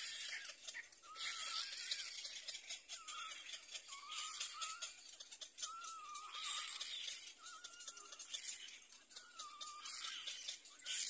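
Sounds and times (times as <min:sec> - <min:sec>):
chicks hissing and whistling: 0:00.0 - 0:11.0.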